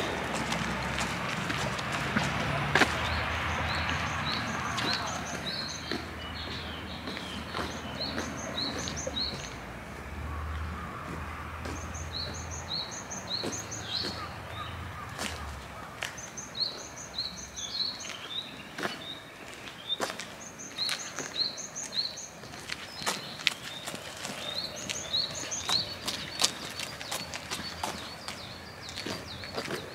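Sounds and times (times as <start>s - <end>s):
outdoor background noise: 0.0s - 29.9s
small birds chirping: 2.5s - 9.7s, 10.5s - 29.9s.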